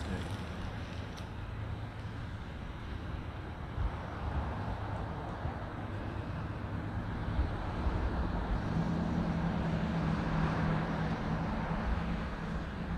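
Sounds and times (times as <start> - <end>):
road traffic rumble: 0.0 - 12.9
vehicle engine hum: 0.0 - 12.9.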